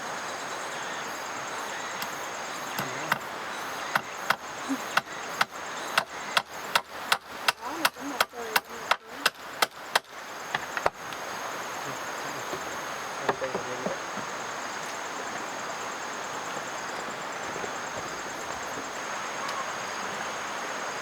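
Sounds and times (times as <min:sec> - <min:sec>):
even hiss: 0:00.0 - 0:21.0
high-pitched insect trill: 0:00.0 - 0:21.0.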